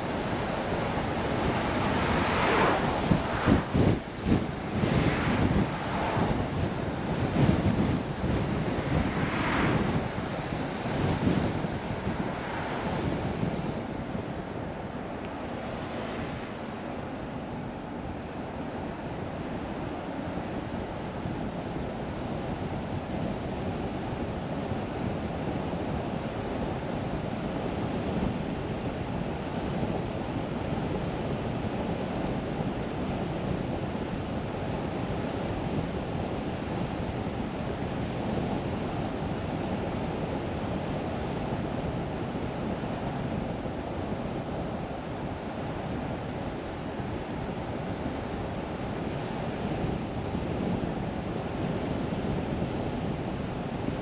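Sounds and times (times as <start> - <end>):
wind rushing past car: 0.0 - 54.0.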